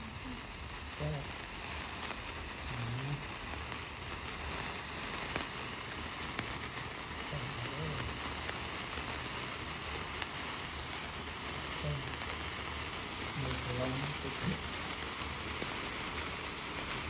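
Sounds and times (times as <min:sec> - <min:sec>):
faint crackles: 0:00.0 - 0:17.0
sparklers fizzing: 0:00.0 - 0:17.0.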